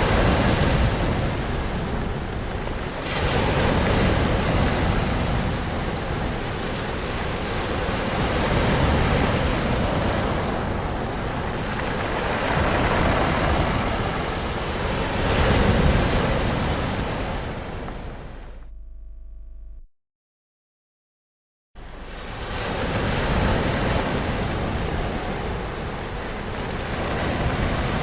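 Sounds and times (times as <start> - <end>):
ocean waves breaking: 0.0 - 18.6, 21.8 - 28.0.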